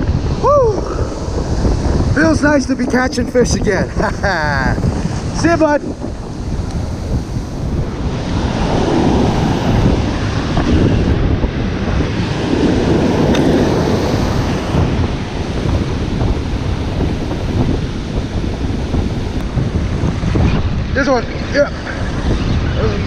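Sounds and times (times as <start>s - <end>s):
surf breaking on beach: 0.0s - 20.8s
wind buffeting microphone: 0.0s - 23.0s.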